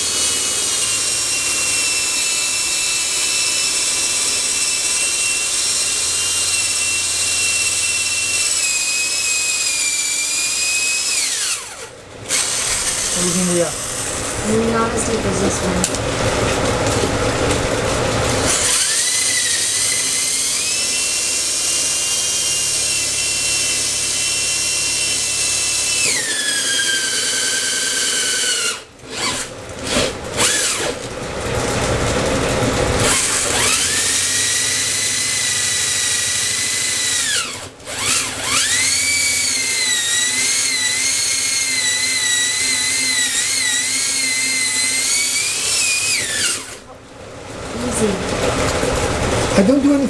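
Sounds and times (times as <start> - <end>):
electric drill whining into wood: 0.0 - 46.9.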